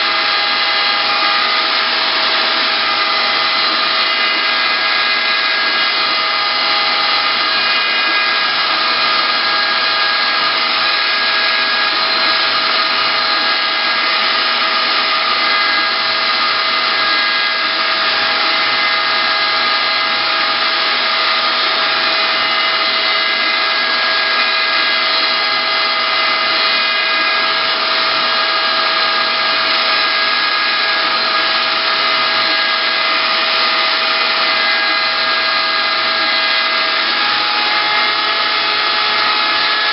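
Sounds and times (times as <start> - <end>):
router motor whining: 0.0 - 39.9.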